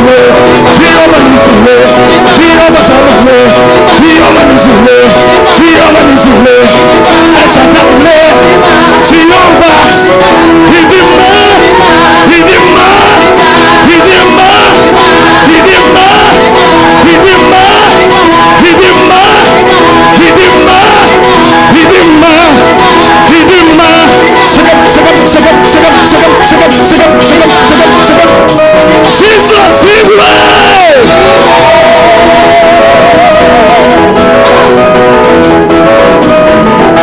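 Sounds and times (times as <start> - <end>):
man singing: 0.0 - 35.2
guitar and instruments playing: 0.0 - 37.0.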